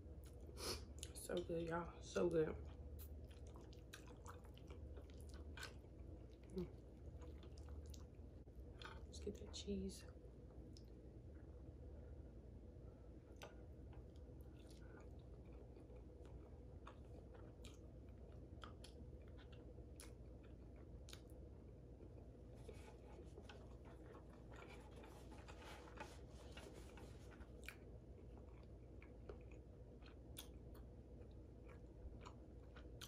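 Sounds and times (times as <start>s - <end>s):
faint chewing: 0.0s - 9.7s, 10.4s - 11.7s, 13.1s - 33.0s.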